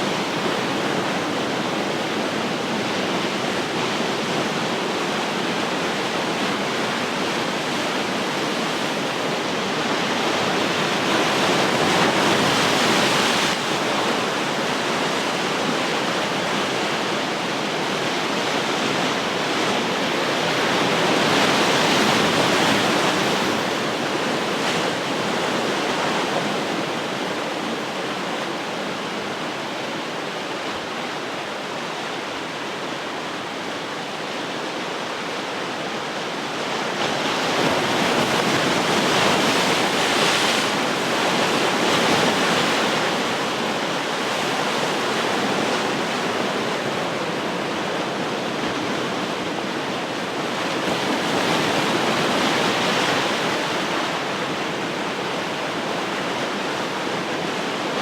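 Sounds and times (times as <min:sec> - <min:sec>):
ocean surf washing onto shore: 0:00.0 - 0:58.0.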